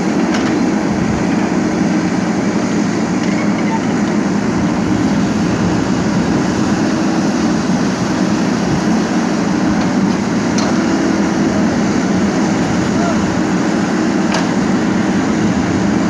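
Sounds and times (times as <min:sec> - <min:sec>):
diesel machinery engine running: 0:00.0 - 0:16.0.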